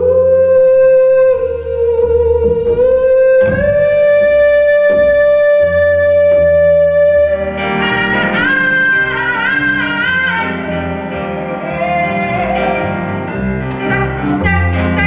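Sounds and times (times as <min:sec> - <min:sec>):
double bass notes: 0:00.0 - 0:15.0
piano chords: 0:00.0 - 0:15.0.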